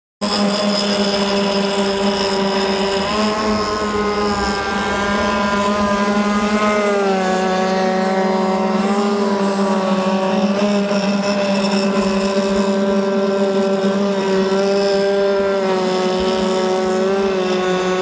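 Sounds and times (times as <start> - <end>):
two-stroke boat engine: 0.2 - 18.0.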